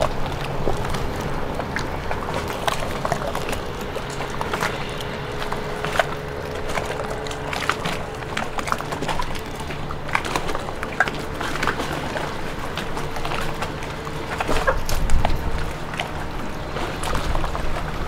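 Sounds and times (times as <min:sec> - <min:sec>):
boat engine humming: 0:00.0 - 0:18.0.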